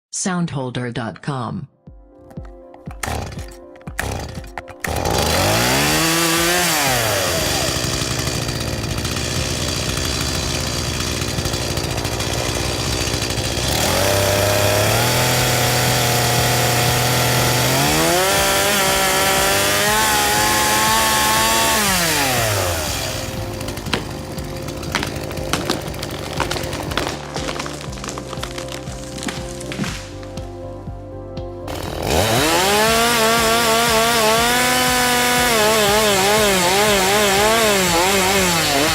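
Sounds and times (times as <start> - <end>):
chainsaw engine revving: 3.0 - 28.6, 31.7 - 38.9.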